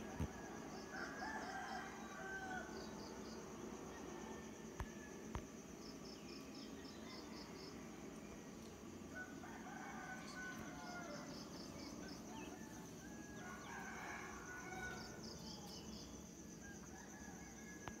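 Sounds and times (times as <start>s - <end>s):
night insects chirring: 0.0s - 18.0s.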